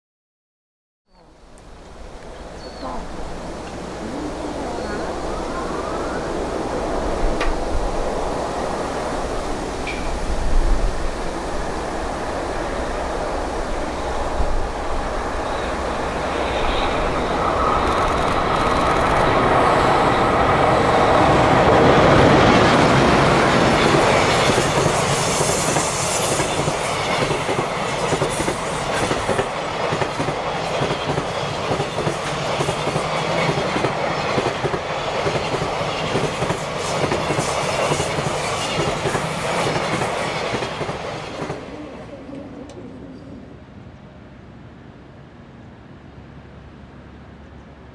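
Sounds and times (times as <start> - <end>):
electric locomotive passing: 1.3 - 47.9.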